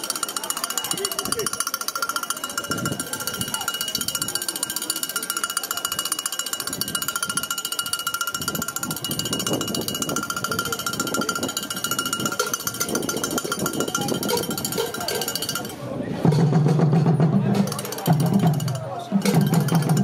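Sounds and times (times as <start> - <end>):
metal bell struck rapidly: 0.0 - 15.8, 17.5 - 20.0
crowd of voices: 0.0 - 20.0.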